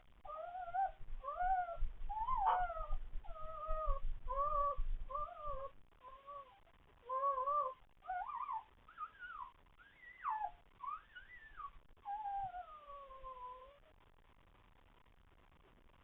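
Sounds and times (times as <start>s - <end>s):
puppies crying: 0.3s - 13.6s.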